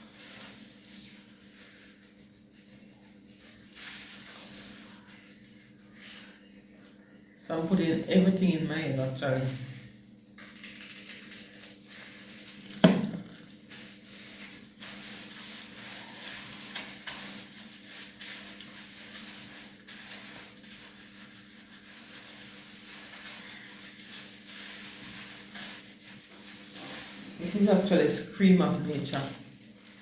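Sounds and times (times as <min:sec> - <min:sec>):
wet rubbing and squishing: 0:00.0 - 0:10.0, 0:11.8 - 0:30.0.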